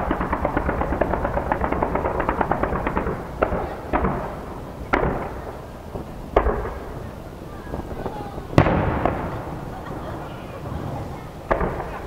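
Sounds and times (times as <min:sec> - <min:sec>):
fireworks bangs: 0:00.0 - 0:12.0
fireworks crackling volley: 0:00.0 - 0:12.0.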